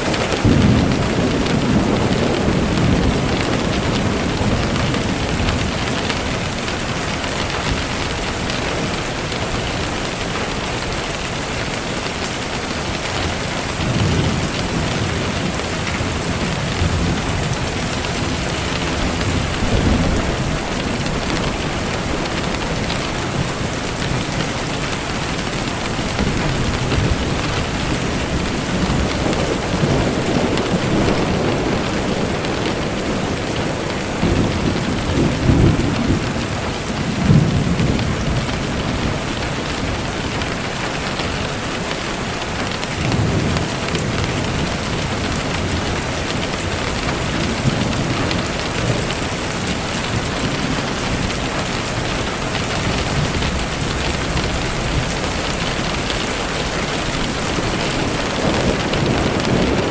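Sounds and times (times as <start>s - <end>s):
steady rain: 0.0s - 59.9s
thunder rumbling: 0.0s - 59.9s.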